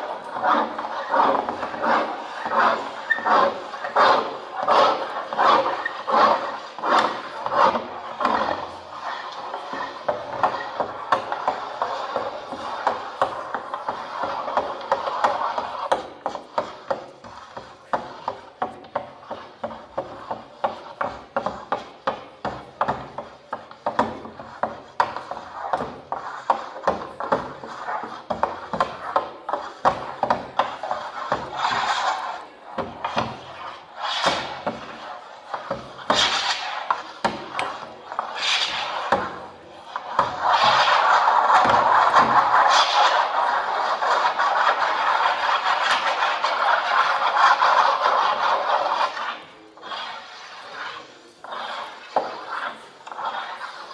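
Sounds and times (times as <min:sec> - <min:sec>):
amplified scratching and tapping: 0:00.0 - 0:53.9.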